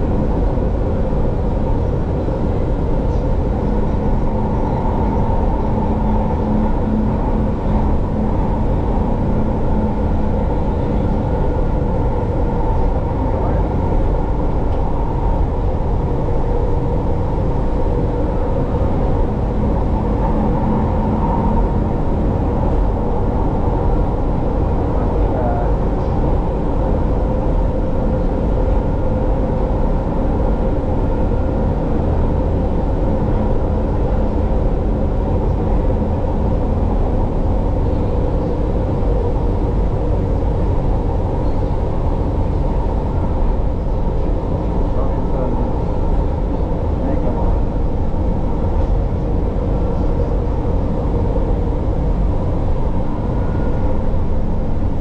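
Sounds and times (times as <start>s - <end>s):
train running on rails: 0.0s - 55.0s.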